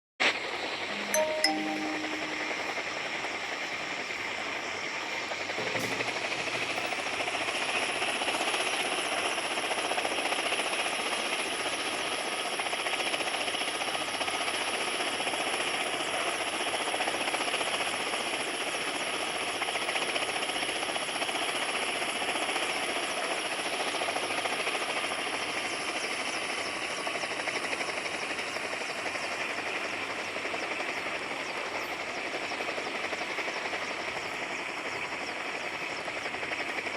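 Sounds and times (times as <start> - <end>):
helicopter running: 0.3 - 36.9.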